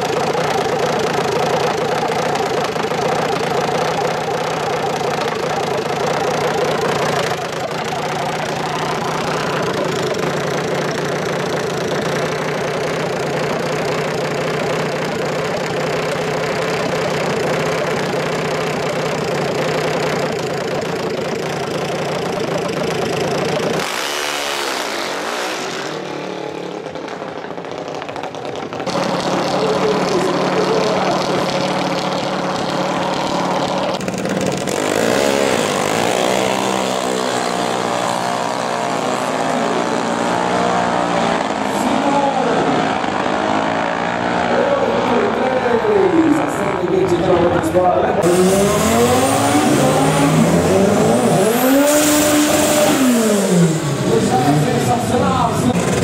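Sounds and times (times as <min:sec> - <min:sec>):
racing engine running steadily: 0:00.0 - 0:56.0.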